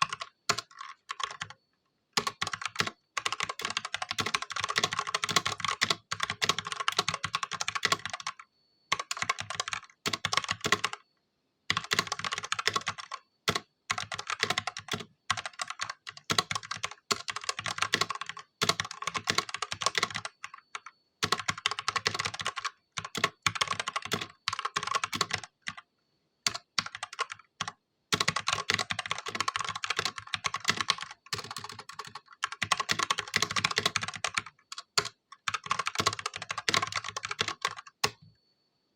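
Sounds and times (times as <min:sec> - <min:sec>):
mechanical keyboard typing: 0:00.0 - 0:01.6, 0:02.2 - 0:11.0, 0:11.7 - 0:25.8, 0:26.4 - 0:38.3.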